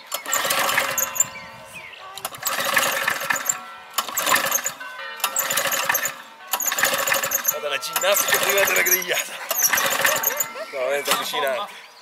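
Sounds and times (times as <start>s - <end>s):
lawnmower engine cranking: 0.0s - 11.6s.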